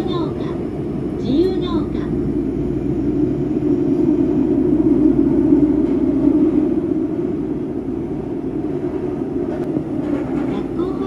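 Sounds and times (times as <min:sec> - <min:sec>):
subway car running in tunnel: 0:00.0 - 0:11.0.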